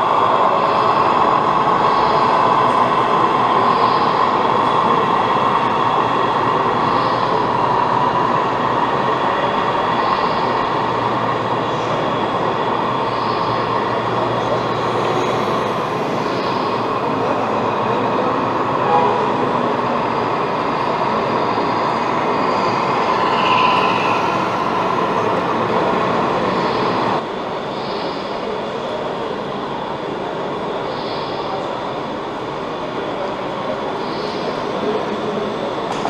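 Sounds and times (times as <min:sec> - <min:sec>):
rumbling background noise: 0:00.0 - 0:36.0.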